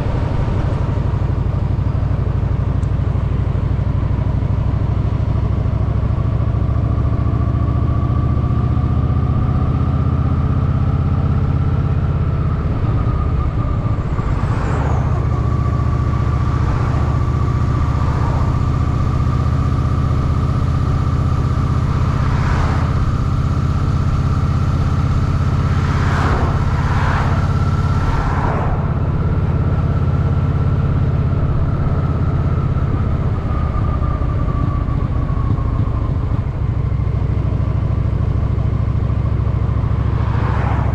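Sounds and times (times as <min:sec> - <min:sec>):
motorcycle engine running: 0:00.0 - 0:40.8.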